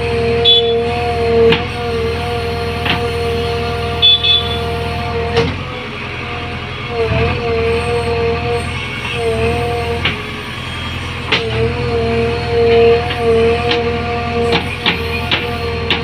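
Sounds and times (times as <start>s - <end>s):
diesel engine with hydraulic whine: 0.0s - 16.0s.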